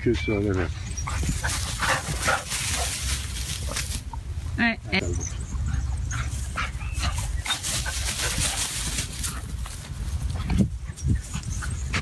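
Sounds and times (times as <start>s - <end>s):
dry grass rustling: 0.4s - 11.9s.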